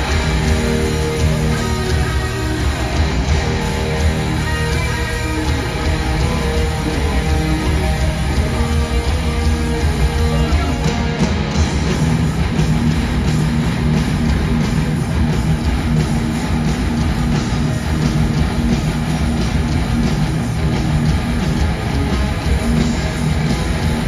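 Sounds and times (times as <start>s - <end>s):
distorted electric guitar riff: 0.0s - 24.0s
drums: 0.0s - 24.0s
heavy metal band playing live: 0.0s - 24.0s.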